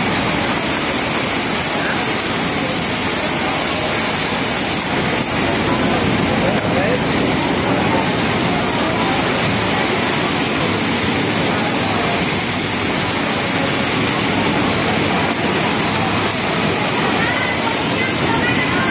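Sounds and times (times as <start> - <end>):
sewing machines whirring: 0.0 - 18.9.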